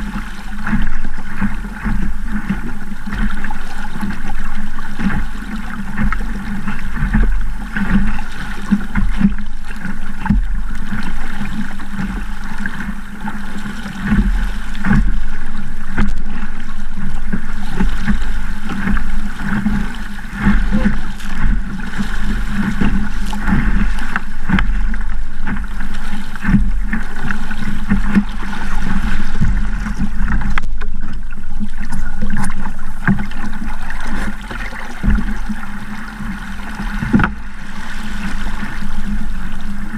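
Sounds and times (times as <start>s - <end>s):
water rushing against hull: 0.0s - 39.9s
waves slapping hull: 0.0s - 39.9s.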